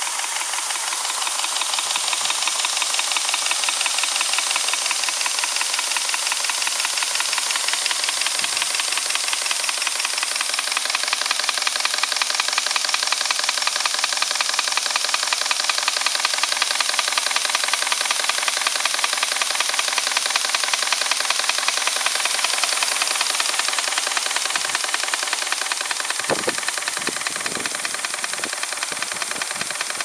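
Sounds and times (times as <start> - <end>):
model steam engine running: 0.0 - 30.0.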